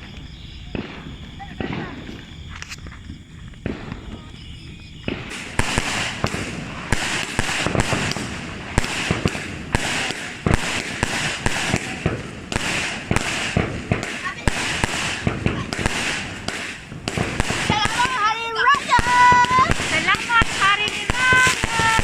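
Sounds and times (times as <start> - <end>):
fireworks hiss: 0.0 - 22.0
fireworks popping: 0.0 - 22.0.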